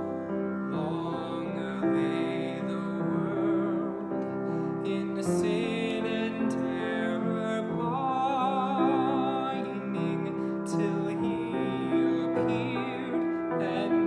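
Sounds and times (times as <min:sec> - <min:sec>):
operatic voice singing: 0:00.0 - 0:14.0
piano accompaniment: 0:00.0 - 0:14.0.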